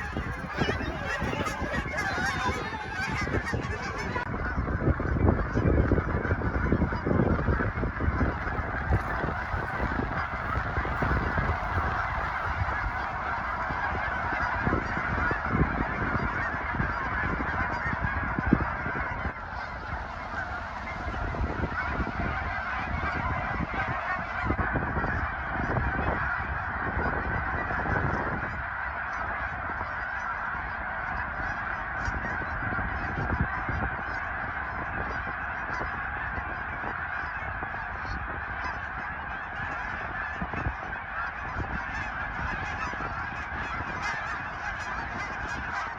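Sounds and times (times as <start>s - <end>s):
geese honking: 0.0s - 45.9s.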